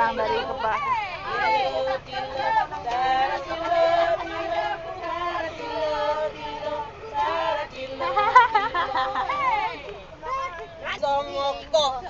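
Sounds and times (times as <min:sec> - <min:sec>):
women singing together: 0:00.0 - 0:12.0.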